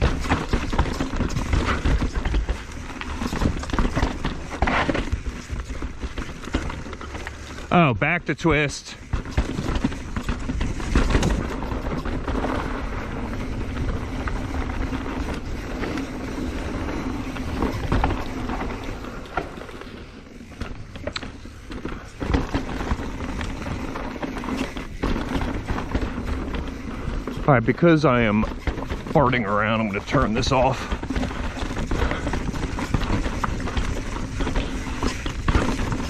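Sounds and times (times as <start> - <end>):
bike knocking and rattling: 0.0 - 36.0
tyres rolling over dirt and rock: 0.0 - 36.0.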